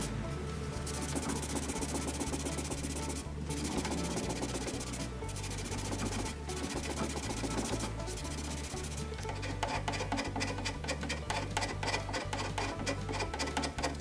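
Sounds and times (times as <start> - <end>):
background music with bass: 0.0 - 14.0
hand scraper scraping wood: 0.0 - 14.0
rag rubbing wood: 0.0 - 14.0.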